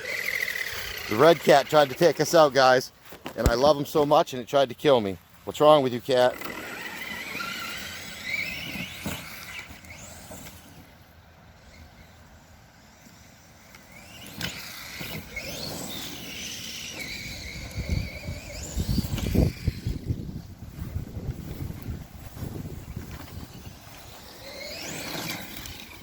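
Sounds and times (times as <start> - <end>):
rc truck motor whining: 0.0 - 3.7, 5.2 - 26.0.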